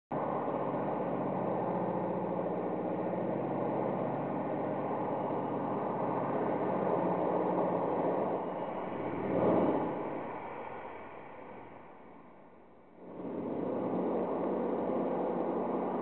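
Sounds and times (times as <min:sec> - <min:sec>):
boiler room machinery drone: 0:00.1 - 0:16.0.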